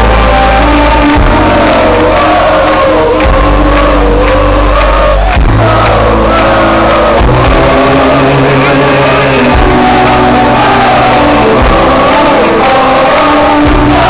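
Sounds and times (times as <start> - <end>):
crowd noise: 0.0 - 14.0
sustained bass notes: 0.0 - 14.0.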